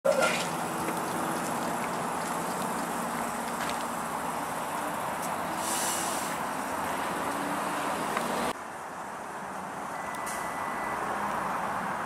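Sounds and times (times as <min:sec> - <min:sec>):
streetcar wheels rumbling: 0:00.0 - 0:12.0.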